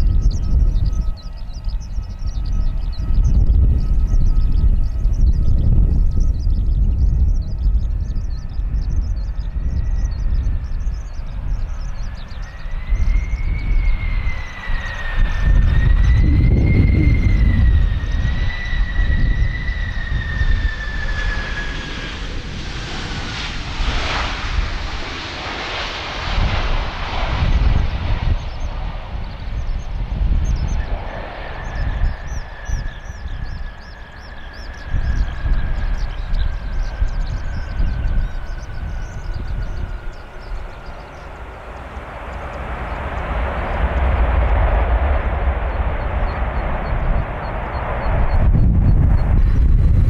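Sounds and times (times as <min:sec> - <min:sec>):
jet engine whine: 0:00.0 - 0:50.0
wind rumble on microphone: 0:00.0 - 0:50.0
rushing jet roar: 0:09.5 - 0:50.0.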